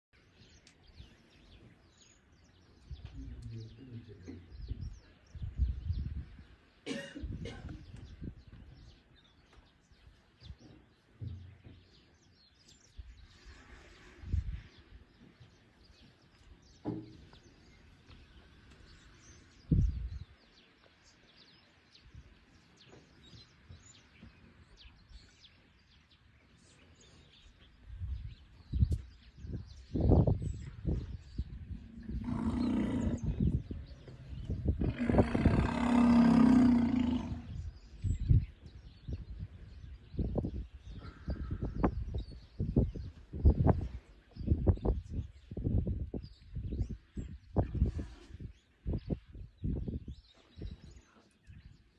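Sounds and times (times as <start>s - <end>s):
small birds chirping: 0.2s - 51.9s.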